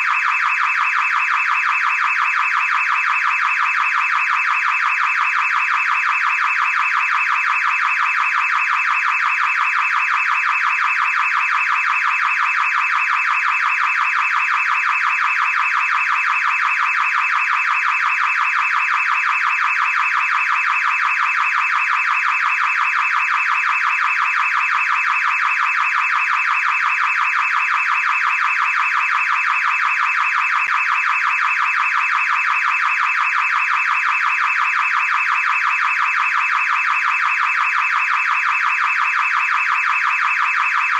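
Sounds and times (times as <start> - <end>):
car alarm: 0.0 - 40.9.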